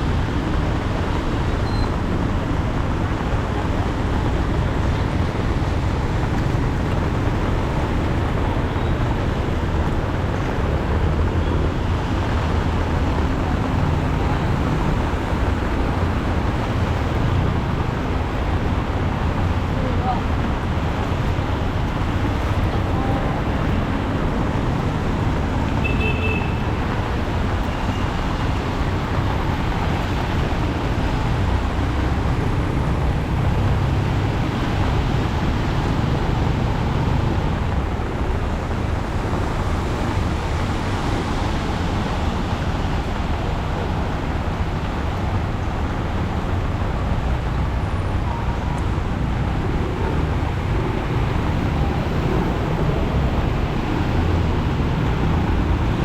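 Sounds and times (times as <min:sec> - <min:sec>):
heavy rain: 0:00.0 - 0:56.0
road traffic: 0:00.0 - 0:56.0.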